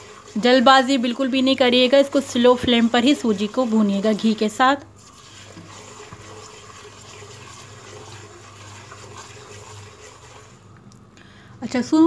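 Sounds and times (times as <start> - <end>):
semolina sizzling in ghee: 0.0 - 10.9.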